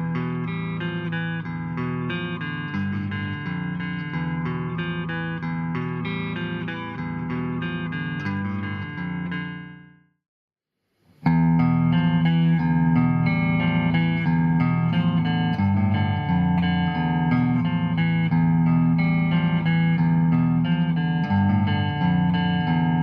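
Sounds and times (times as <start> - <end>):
electric guitar riff: 0.0 - 9.9, 11.2 - 23.0.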